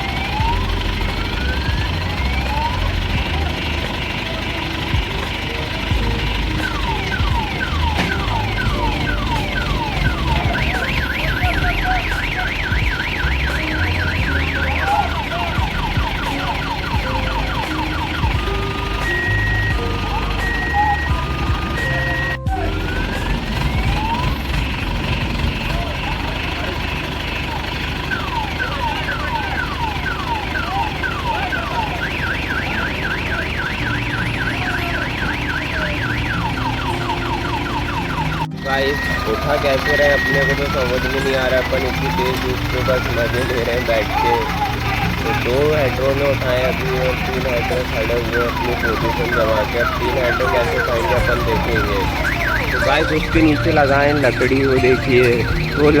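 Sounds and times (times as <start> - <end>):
electronic warning siren: 0.0 - 56.0
low engine rumble: 0.0 - 56.0
steady beeps: 0.0 - 56.0
vehicle alarm sweeps and warble: 0.0 - 56.0.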